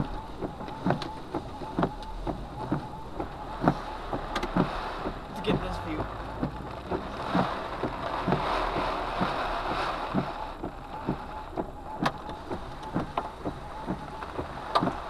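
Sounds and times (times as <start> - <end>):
heavy rain on a car: 0.0 - 15.0
raindrops tapping car roof: 0.0 - 15.0.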